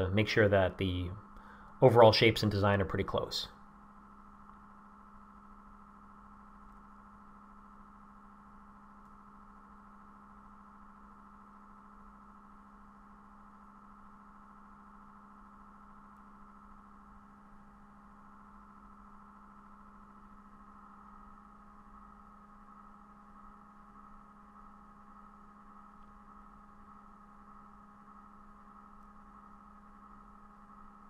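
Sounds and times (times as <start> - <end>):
faint steady tonal hum: 0.0 - 31.0.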